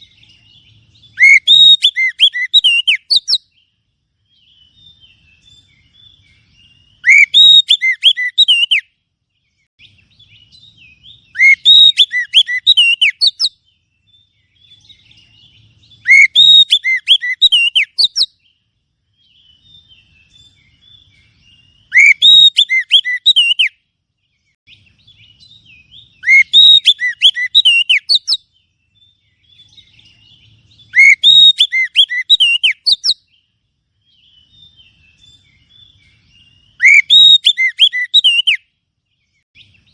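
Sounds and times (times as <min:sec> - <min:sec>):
faint bird calls: 0:00.0 - 0:03.7, 0:04.4 - 0:08.9, 0:09.8 - 0:18.5, 0:19.3 - 0:23.8, 0:24.7 - 0:33.4, 0:34.2 - 0:38.6
bird song whistled phrases: 0:00.0 - 0:39.9.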